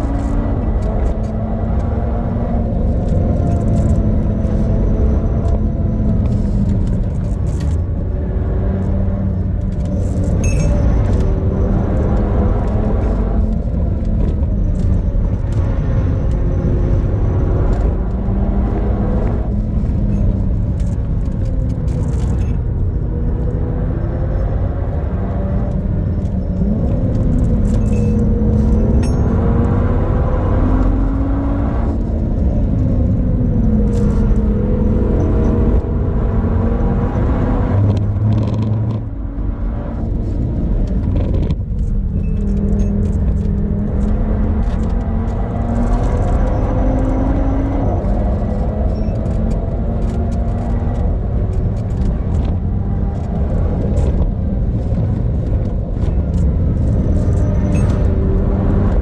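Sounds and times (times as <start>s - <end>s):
heavy road rumble: 0.0s - 59.0s.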